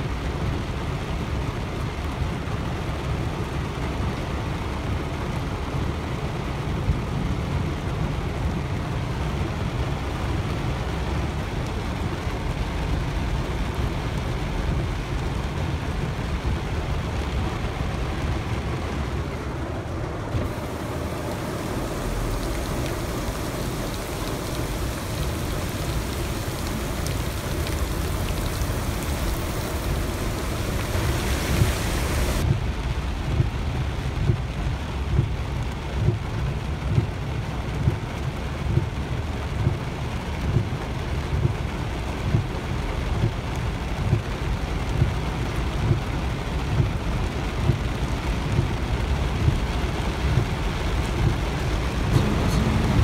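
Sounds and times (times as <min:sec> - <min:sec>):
car road rumble: 0:00.0 - 0:53.0
heavy rain on car roof: 0:00.0 - 0:53.0.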